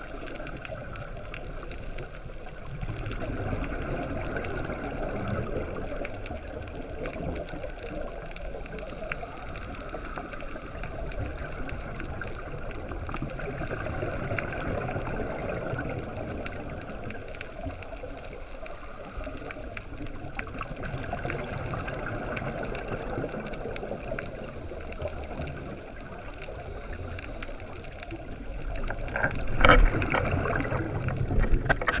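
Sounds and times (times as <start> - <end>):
underwater bubbles: 0.0 - 32.0.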